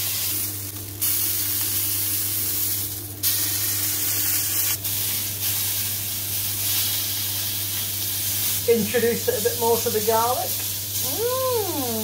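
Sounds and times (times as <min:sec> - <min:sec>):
steak sizzling in a griddle pan: 0:00.0 - 0:12.0.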